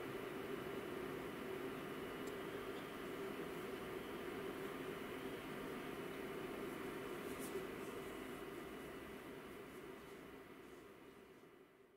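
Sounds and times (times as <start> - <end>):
faint room hiss: 0.0 - 11.9.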